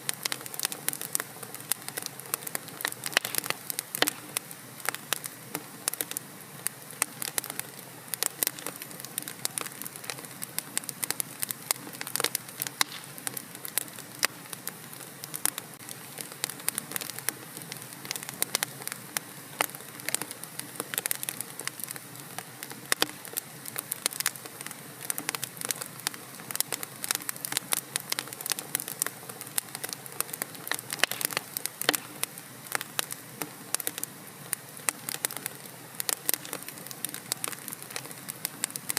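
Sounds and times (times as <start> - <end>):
fire hissing: 0.0 - 38.9
wood fire crackling: 0.0 - 38.9.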